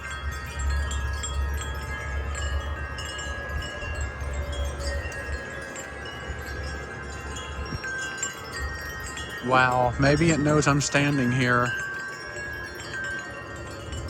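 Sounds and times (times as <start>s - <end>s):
low wind rumble on microphone: 0.0s - 14.0s
wind chimes ringing: 0.0s - 14.0s.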